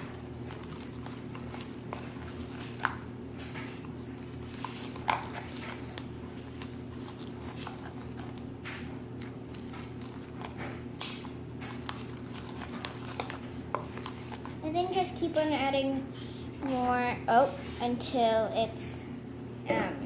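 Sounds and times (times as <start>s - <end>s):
utensil stirring slime: 0.0s - 18.5s
steady low hum: 0.0s - 20.0s.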